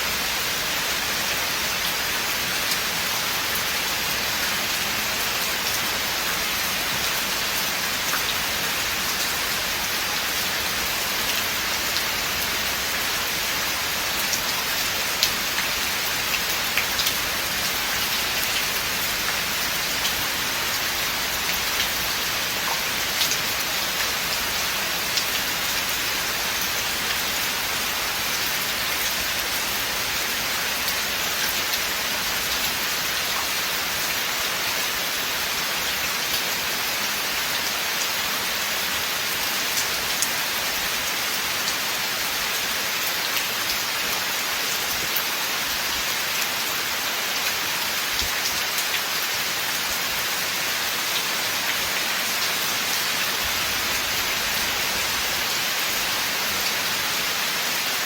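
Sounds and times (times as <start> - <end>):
rain falling on forest: 0.0 - 58.0.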